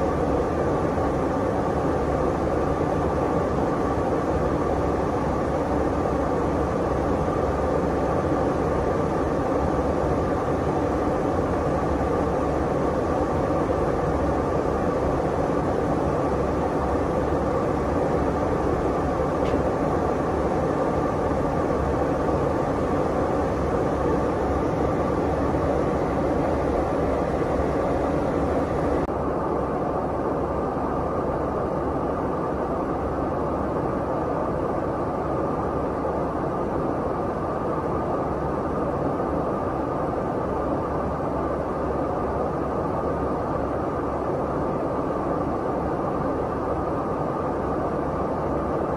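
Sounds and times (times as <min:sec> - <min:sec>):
aircraft cabin engine rush: 0:00.0 - 0:48.9
faint steady hum: 0:00.0 - 0:48.9.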